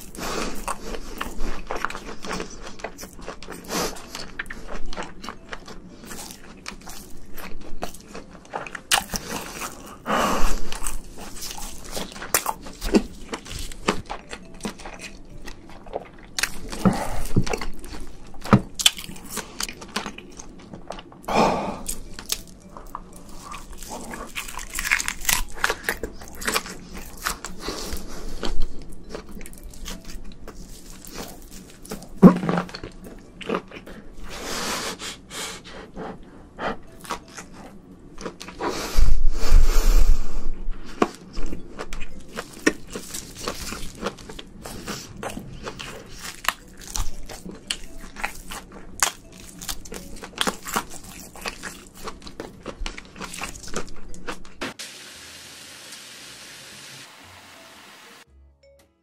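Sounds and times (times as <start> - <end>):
man chewing wetly: 0.0 - 39.6, 40.6 - 54.7.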